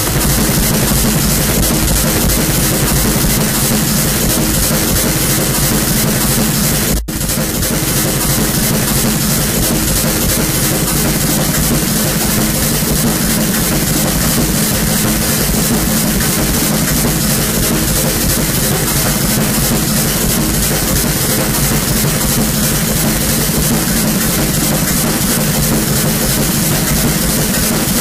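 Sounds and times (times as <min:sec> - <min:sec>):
harsh noise music: 0:00.0 - 0:28.0.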